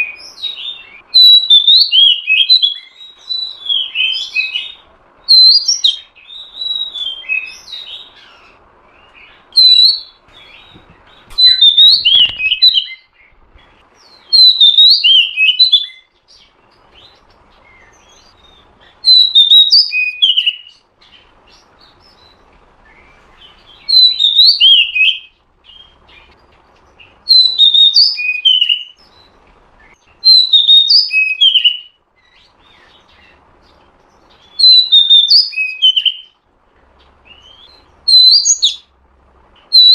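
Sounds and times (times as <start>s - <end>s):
bird chirping in quick bursts: 0.0s - 36.4s.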